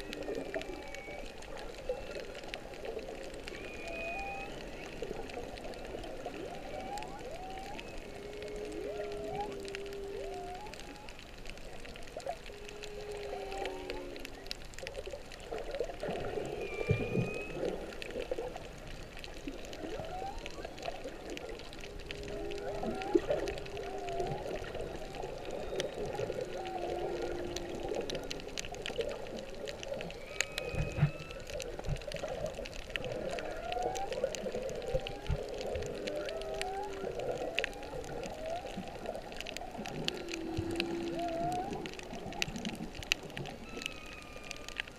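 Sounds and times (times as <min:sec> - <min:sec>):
crackle of clicks: 0:00.0 - 0:44.9
whale song underwater: 0:00.0 - 0:44.9.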